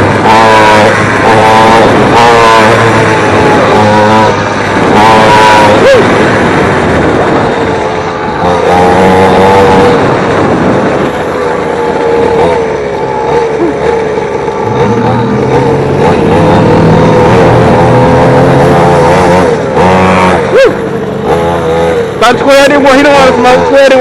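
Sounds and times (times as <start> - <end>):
two-stroke dirt bike engine revving: 0.0 - 24.0.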